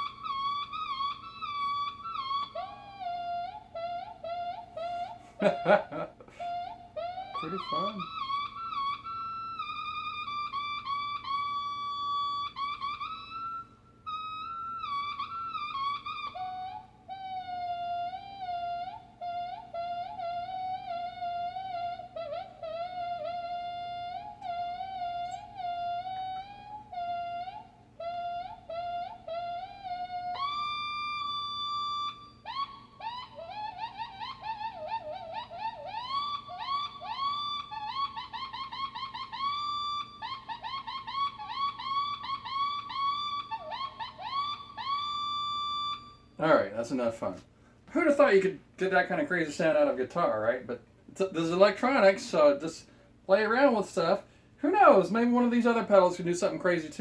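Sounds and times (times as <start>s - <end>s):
electric guitar squealing: 0.0s - 57.0s.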